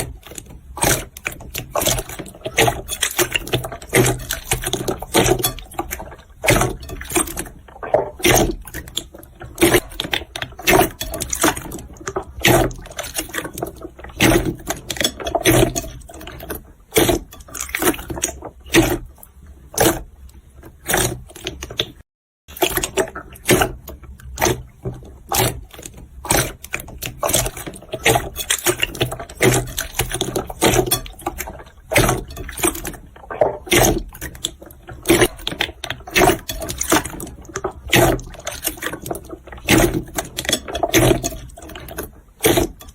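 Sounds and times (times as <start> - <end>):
slime squelching by hand: 0.0 - 42.9.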